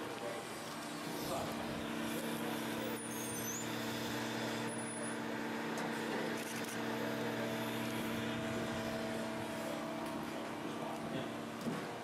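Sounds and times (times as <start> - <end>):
machine hum: 0.7 - 11.6.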